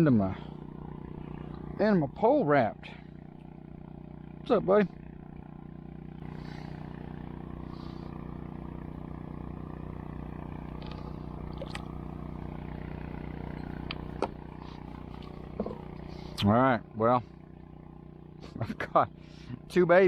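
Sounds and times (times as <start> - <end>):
motor hum: 0.0 - 20.0.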